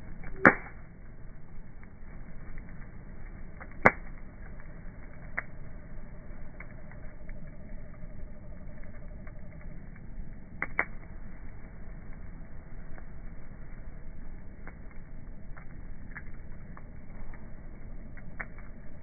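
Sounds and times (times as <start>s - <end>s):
bonfire crackling: 0.0s - 19.0s
fire popping: 0.0s - 19.0s.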